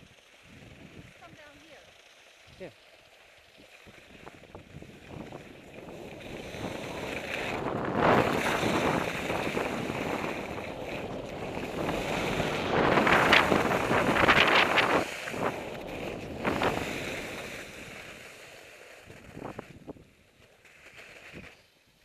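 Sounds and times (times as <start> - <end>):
wind rushing on microphone: 0.0 - 1.5, 3.9 - 20.1
skis sliding over snow: 0.0 - 22.0.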